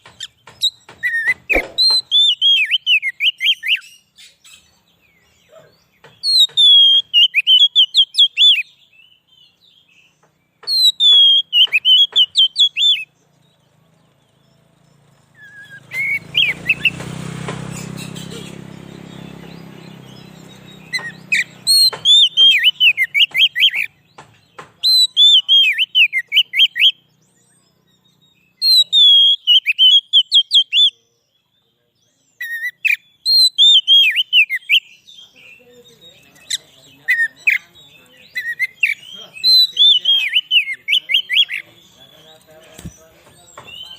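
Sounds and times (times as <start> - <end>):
bird singing sharp chirps: 0.0 - 43.9.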